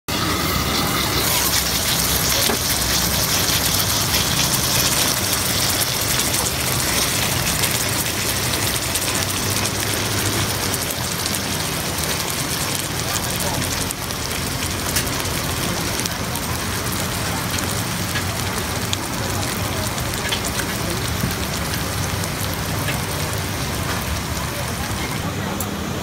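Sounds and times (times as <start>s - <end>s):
steak and sauce sizzling: 0.1s - 25.3s.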